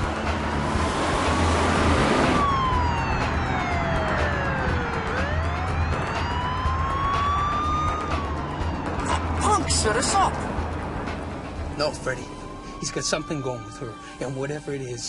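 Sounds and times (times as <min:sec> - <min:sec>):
police siren wailing: 0:00.0 - 0:10.8, 0:11.5 - 0:15.0
car engine and tyre noise: 0:00.0 - 0:12.9.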